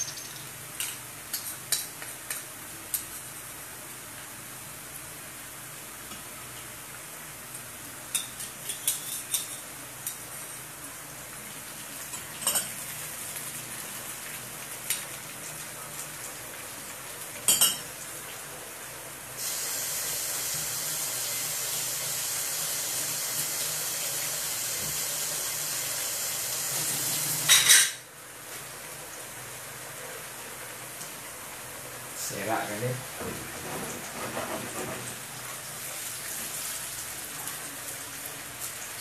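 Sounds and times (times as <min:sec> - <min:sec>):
onions sizzling in oil: 0:00.0 - 0:32.7, 0:35.1 - 0:39.0.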